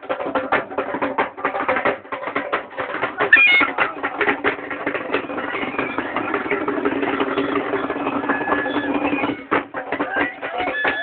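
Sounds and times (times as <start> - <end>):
crowd clatter: 0.0 - 11.0.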